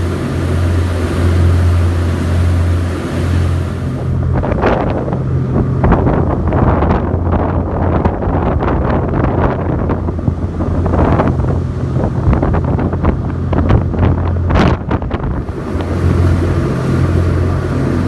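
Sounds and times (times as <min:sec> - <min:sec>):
ferry engines droning: 0:00.0 - 0:18.0
wind buffeting microphone: 0:00.0 - 0:18.0.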